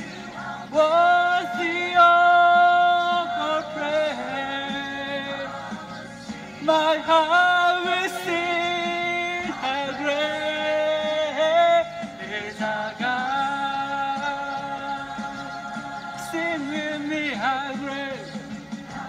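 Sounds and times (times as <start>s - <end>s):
man singing into microphone: 0.0s - 6.0s, 6.6s - 18.5s.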